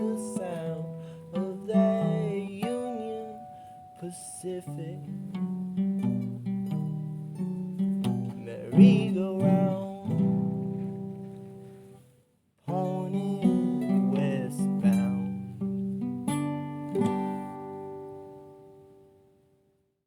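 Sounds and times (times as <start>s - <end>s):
acoustic guitar strumming chords: 0.0s - 19.2s.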